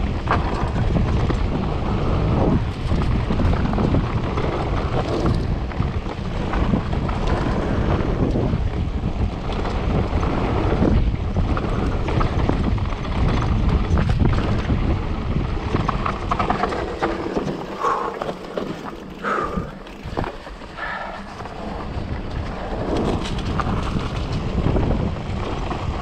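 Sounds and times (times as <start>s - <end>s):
bike rattling and clattering: 0.0s - 26.0s
bike tyres rumbling: 0.0s - 26.0s
wind buffeting microphone: 0.0s - 26.0s.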